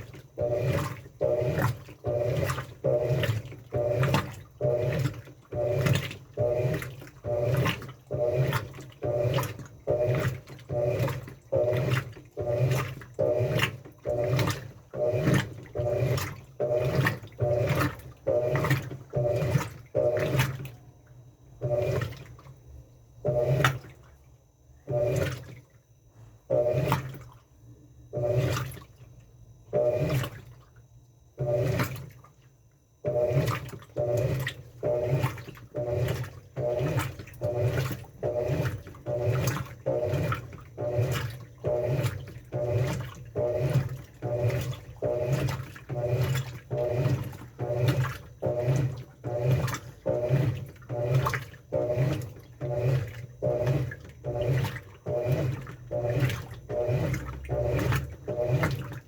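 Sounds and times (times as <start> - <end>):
pulsing motor hum: 0.0 - 59.0
water sloshing in washing machine: 0.0 - 59.0.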